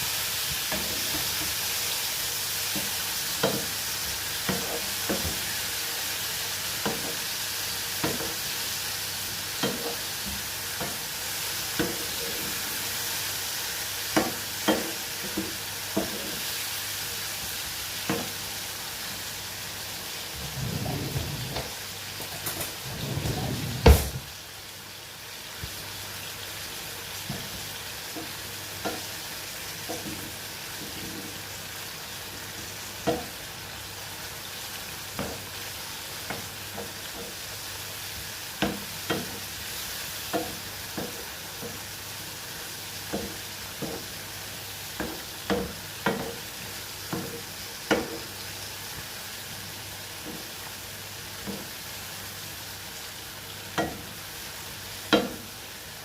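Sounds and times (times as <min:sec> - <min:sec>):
mushrooms sizzling in a pan: 0:00.0 - 0:56.0.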